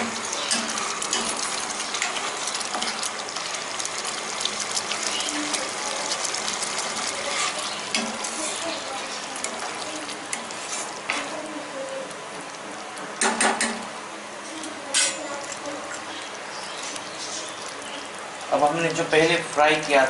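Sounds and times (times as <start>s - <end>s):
gravy simmering with bubbles popping: 0.0s - 20.0s
spoon stirring in pan: 0.0s - 20.0s.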